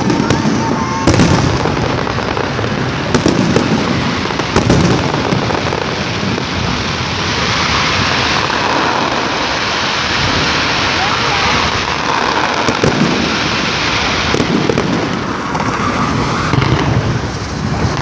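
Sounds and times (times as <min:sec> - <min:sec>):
fireworks bangs: 0:00.0 - 0:18.0
fireworks hissing and crackling: 0:00.0 - 0:18.0.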